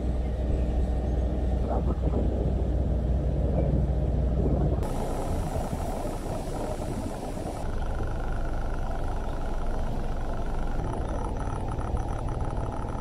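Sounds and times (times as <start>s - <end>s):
boat engine low rumble: 0.0s - 13.0s
faint steady whine: 0.0s - 13.0s.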